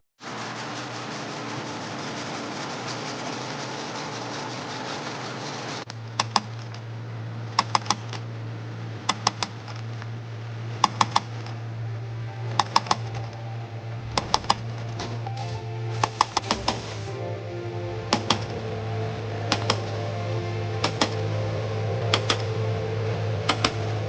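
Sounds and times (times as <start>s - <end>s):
steady rushing noise: 0.2s - 24.0s
stud welder humming: 0.2s - 24.0s.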